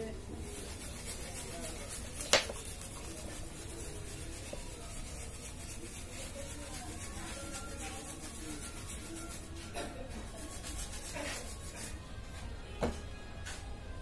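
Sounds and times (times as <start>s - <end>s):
rubbing and scraping of circuit board: 0.3s - 12.0s.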